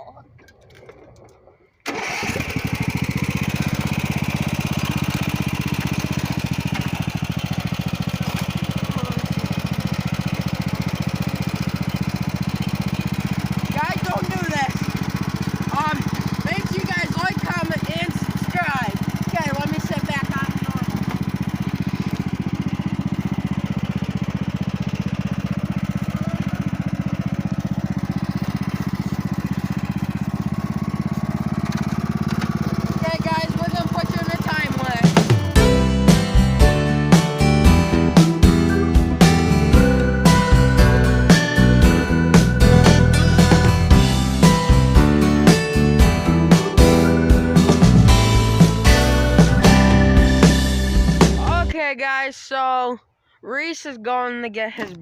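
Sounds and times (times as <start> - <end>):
lawn mower engine running: 0.0 - 51.8.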